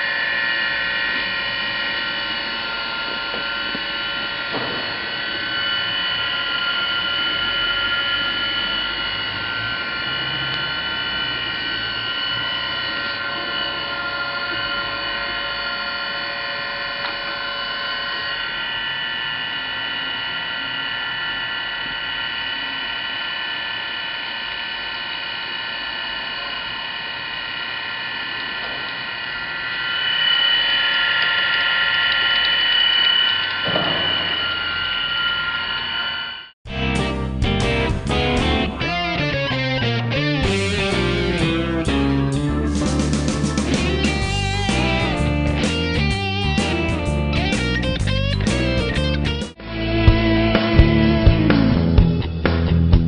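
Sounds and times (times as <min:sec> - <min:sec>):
surface grinder whining: 0:00.0 - 0:51.9.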